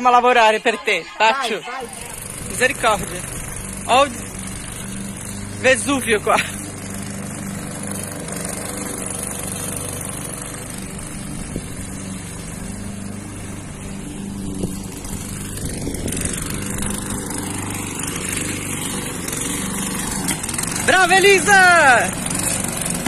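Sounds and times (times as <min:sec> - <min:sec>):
push lawn mower running: 0:00.0 - 0:23.0.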